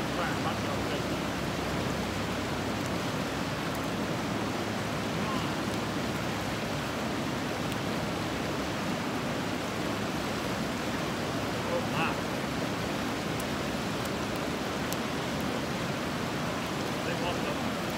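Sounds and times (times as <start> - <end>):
river rushing over rocks: 0.0 - 17.9.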